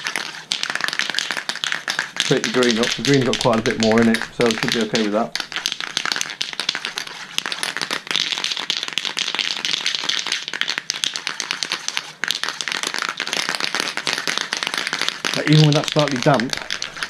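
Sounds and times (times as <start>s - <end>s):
spray can ball rattling: 0.0s - 17.0s.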